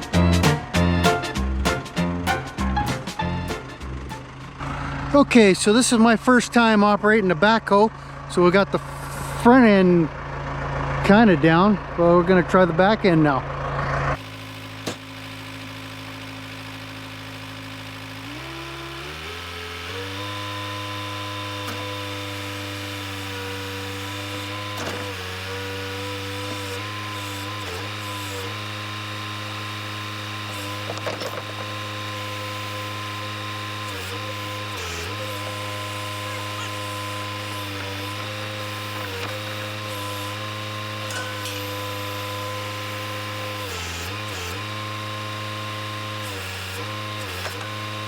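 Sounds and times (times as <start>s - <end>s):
diesel engine revving: 0.0s - 48.0s.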